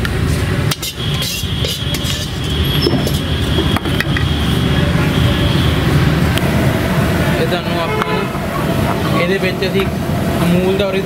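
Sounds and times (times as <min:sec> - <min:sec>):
gas burner roar: 0:00.0 - 0:11.0.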